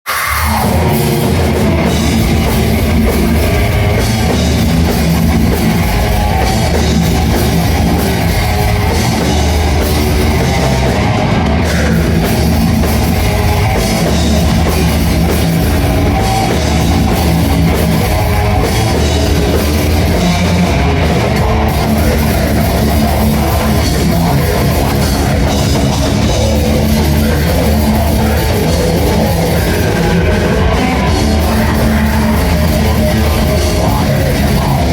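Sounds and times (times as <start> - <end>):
loud rock music: 0.0 - 34.9.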